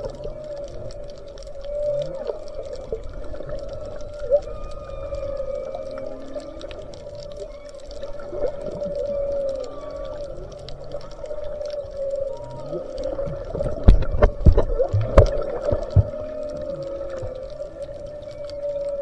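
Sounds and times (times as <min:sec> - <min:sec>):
crackle of small clicks: 0:00.0 - 0:19.0
whale song underwater: 0:00.0 - 0:19.0.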